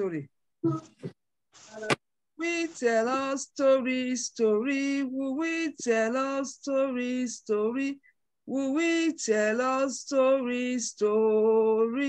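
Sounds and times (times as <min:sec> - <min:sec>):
person singing slow tune: 0:01.7 - 0:12.0.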